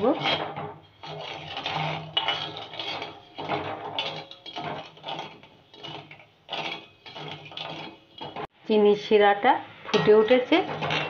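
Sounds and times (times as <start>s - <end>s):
ladle scraping pan bottom: 0.0s - 8.5s, 9.9s - 11.0s.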